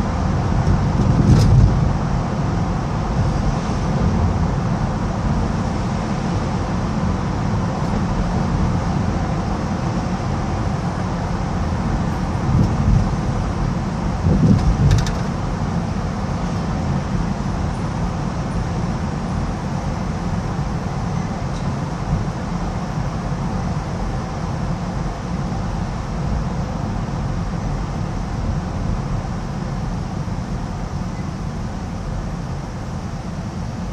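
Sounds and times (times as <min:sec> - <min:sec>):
tunnel traffic rumble: 0:00.0 - 0:33.9.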